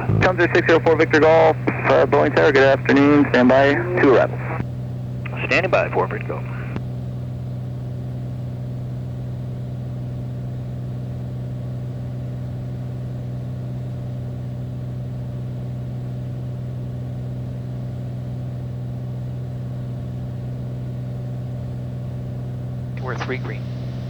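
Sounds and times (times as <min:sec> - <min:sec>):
propeller plane engine droning: 0:00.0 - 0:24.0.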